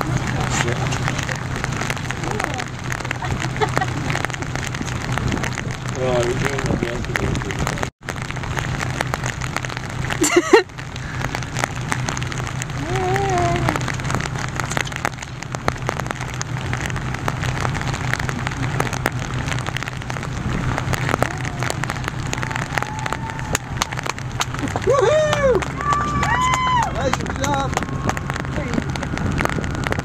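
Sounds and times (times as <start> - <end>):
boat engine humming: 0.0 - 30.0
light crackle: 0.0 - 30.0.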